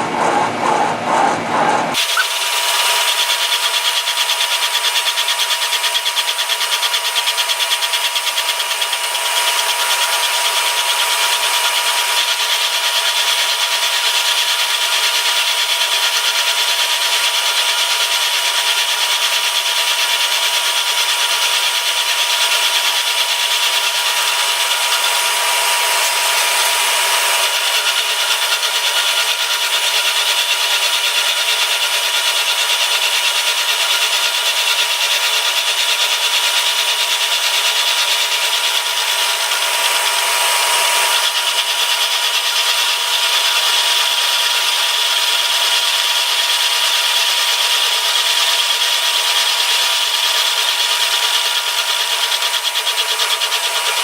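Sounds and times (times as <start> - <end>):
milling machine cutting metal: 0.0 - 54.0.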